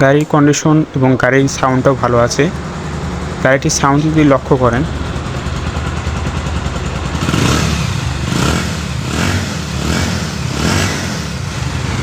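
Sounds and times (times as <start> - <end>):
motorcycle engine running: 0.7 - 12.0.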